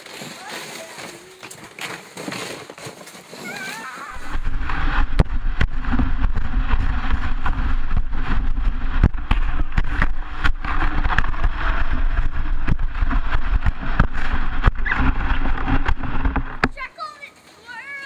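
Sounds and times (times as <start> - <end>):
sled rumbling over packed snow: 0.0 - 18.0
sharp knocks of sled bumping: 0.3 - 18.0.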